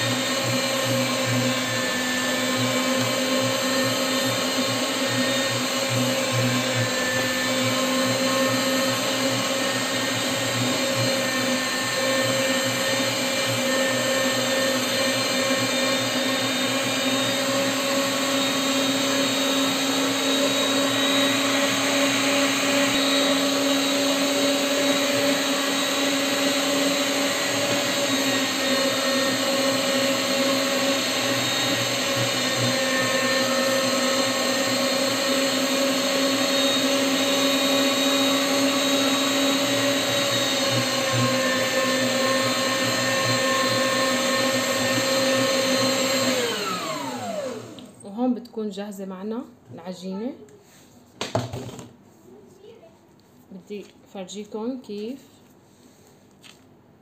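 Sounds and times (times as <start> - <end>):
electric meat grinder motor humming: 0.0 - 47.9.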